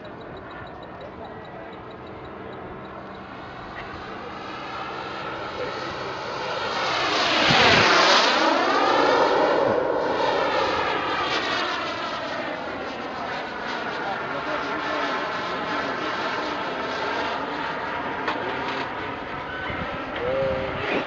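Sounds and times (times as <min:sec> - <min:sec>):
model jet turbine flying past: 0:00.0 - 0:21.0.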